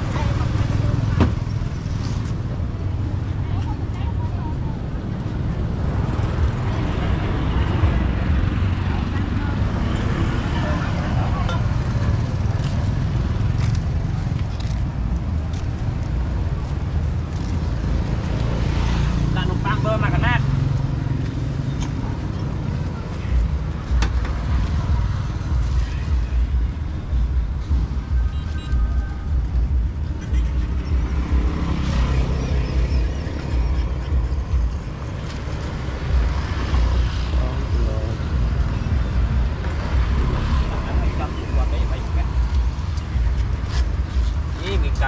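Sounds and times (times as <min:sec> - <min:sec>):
low street rumble: 0:00.0 - 0:45.0.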